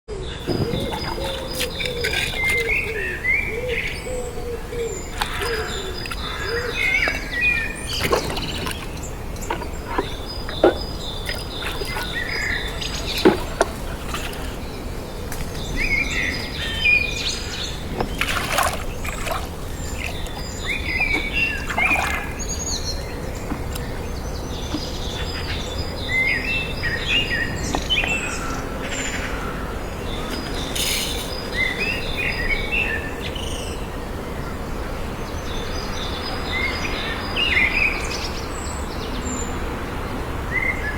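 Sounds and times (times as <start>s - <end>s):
birds chirping: 0.1s - 40.9s
steady low background noise: 0.1s - 40.9s.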